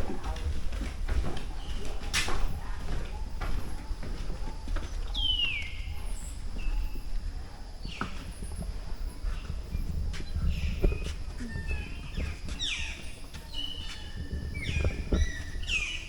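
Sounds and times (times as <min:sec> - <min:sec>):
footsteps on stone: 0:00.0 - 0:15.9.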